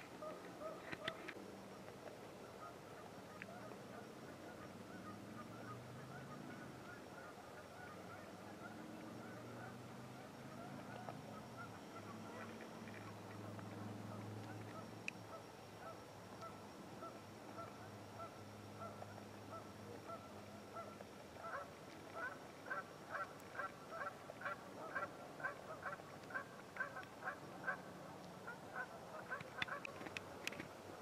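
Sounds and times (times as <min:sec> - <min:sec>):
geese honking: 0:00.0 - 0:01.4, 0:02.4 - 0:30.2.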